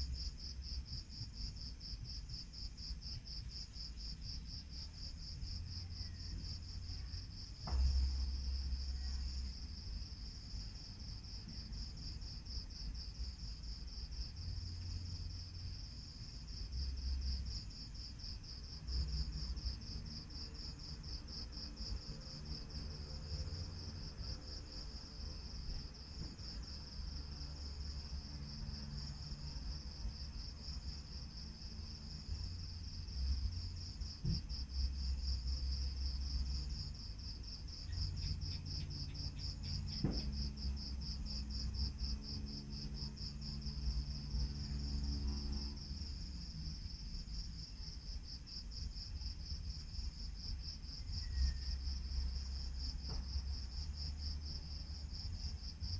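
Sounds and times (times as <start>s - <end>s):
crickets chirping: 0.0s - 55.9s.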